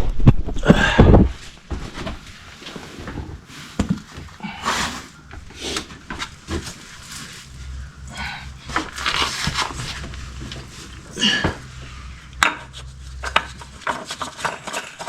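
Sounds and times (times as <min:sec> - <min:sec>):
objects knocking and scraping: 0:00.2 - 0:15.0
low steady hum: 0:00.4 - 0:15.0.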